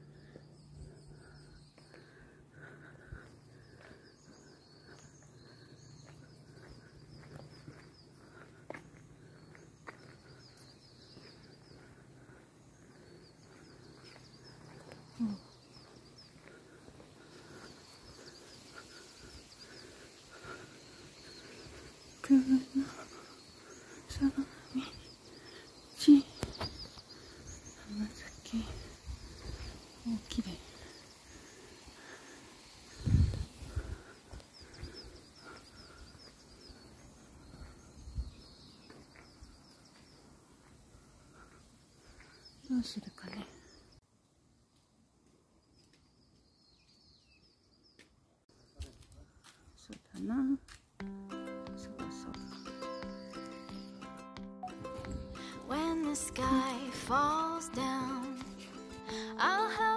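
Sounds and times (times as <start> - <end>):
birds chirping: 0.0 - 44.0, 45.6 - 59.9
outdoor background noise: 0.0 - 59.9.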